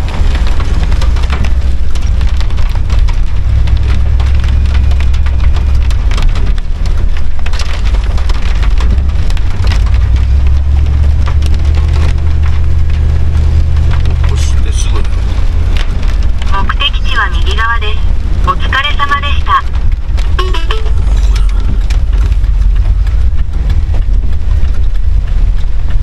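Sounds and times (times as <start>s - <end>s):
rain pattering on windshield: 0.0s - 26.0s
van engine and tyres rumbling: 0.0s - 26.0s.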